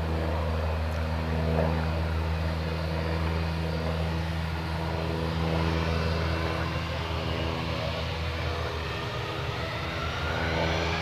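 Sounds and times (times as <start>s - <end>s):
distant jet engines humming: 0.0s - 11.0s.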